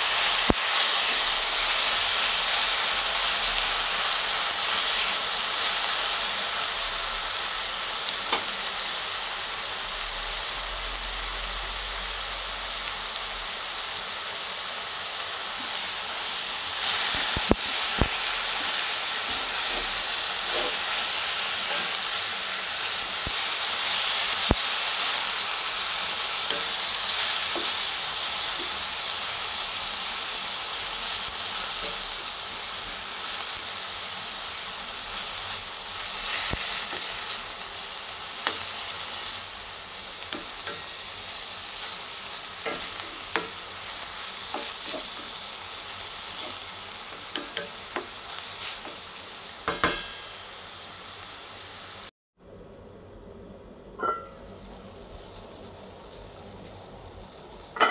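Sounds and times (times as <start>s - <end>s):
chicken sizzling in a pan: 0.0s - 57.9s.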